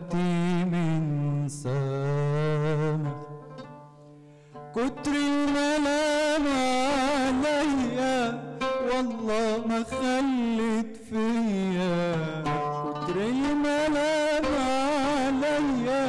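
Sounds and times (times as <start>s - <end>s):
man singing ornamented song: 0.0s - 3.6s, 4.6s - 16.0s
oud playing: 0.0s - 16.0s.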